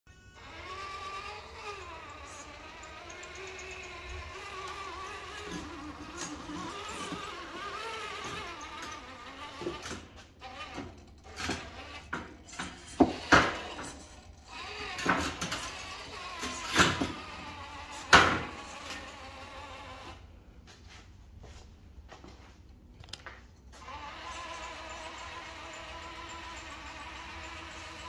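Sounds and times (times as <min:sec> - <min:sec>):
toy truck motor whining: 0:00.1 - 0:20.3, 0:23.8 - 0:28.0.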